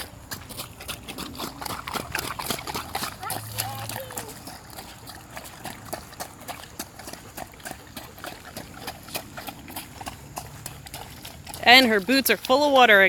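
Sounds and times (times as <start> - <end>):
footsteps splashing through mud: 0.0 - 13.0.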